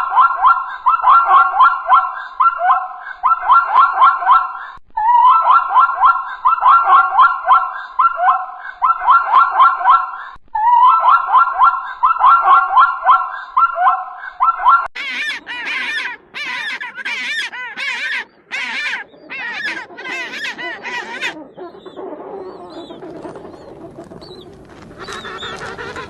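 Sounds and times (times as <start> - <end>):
animal calls: 0.0 - 26.0.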